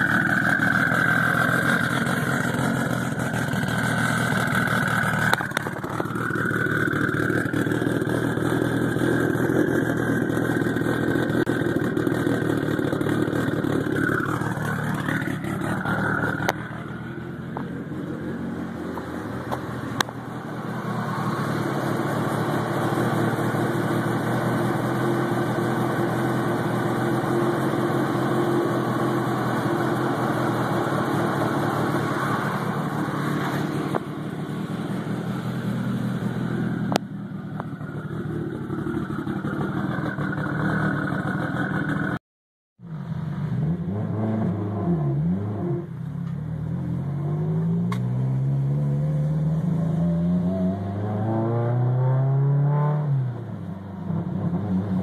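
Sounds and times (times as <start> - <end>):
car engine idling and revving: 0.0 - 42.2, 42.8 - 55.0.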